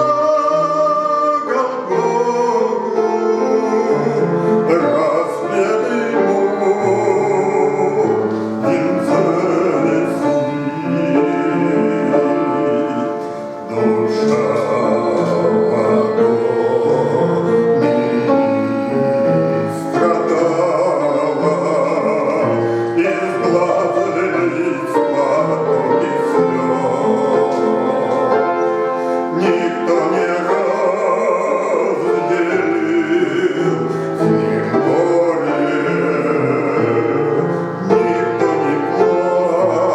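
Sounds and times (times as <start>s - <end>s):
instrumental accompaniment: 0.0s - 39.9s
man singing a hymn: 0.0s - 39.9s.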